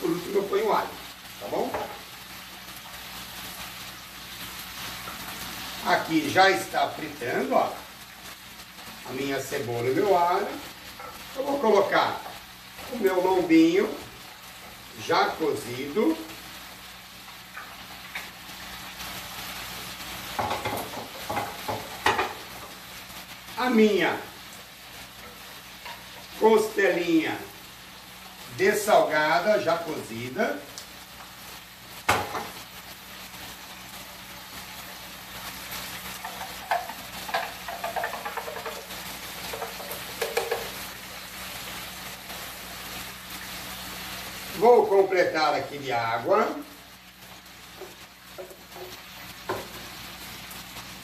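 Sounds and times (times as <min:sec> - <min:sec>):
oil sizzling in pots: 0:00.0 - 0:51.0.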